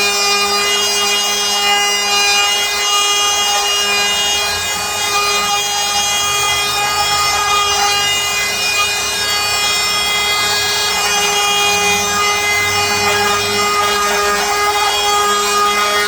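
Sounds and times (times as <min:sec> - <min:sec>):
router cutting wood: 0:00.0 - 0:16.0.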